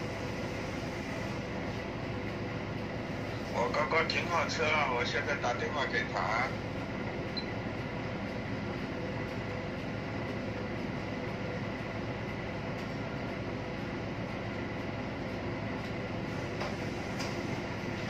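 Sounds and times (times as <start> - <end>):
machinery drone: 0.0 - 18.0.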